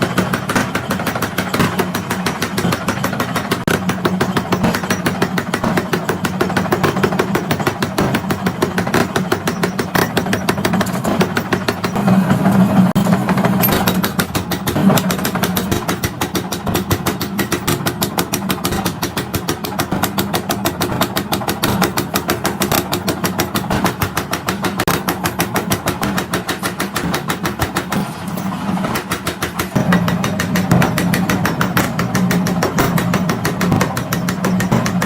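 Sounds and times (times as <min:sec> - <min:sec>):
machinery humming with fast pulses: 0:00.0 - 0:35.0.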